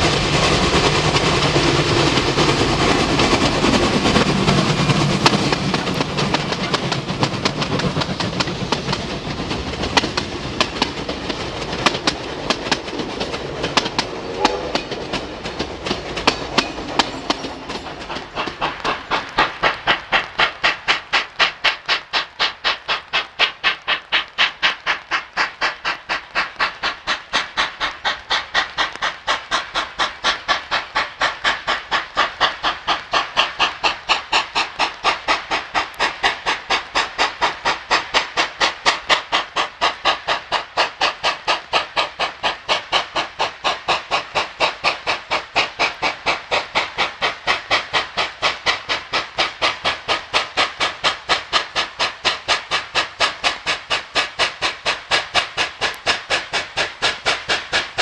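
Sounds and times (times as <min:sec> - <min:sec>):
steam train rumbling past: 0:00.0 - 0:58.0.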